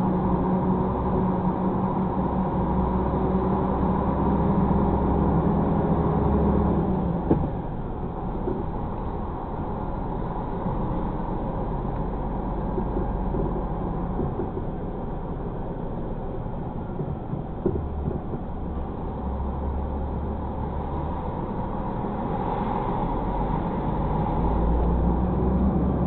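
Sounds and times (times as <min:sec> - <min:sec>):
truck engine and road drone: 0:00.0 - 0:26.0.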